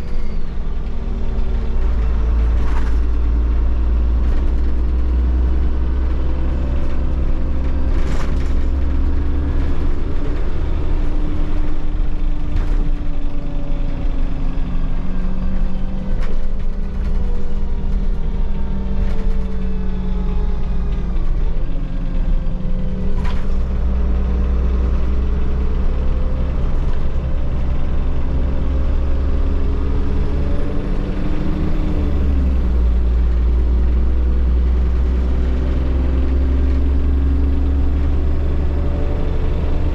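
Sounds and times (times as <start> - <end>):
bus engine and drivetrain drone: 0.0 - 39.9.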